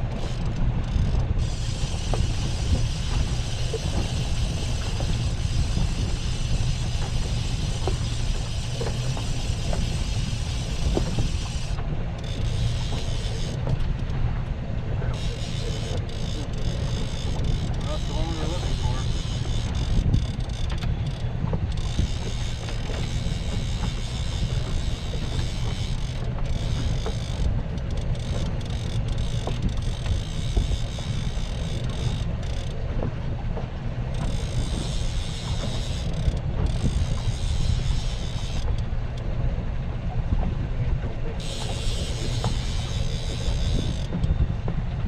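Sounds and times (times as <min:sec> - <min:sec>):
boat motor rumbling: 0:00.0 - 0:45.0
wind buffeting microphone: 0:00.0 - 0:45.0.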